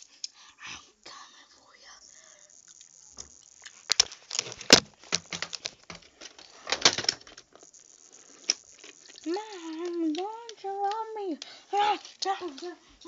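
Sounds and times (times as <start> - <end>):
rustling: 2.5 - 13.0.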